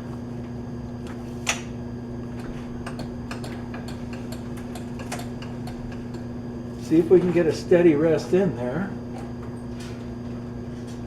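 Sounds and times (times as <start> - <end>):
machine shop hum: 0.0 - 11.0.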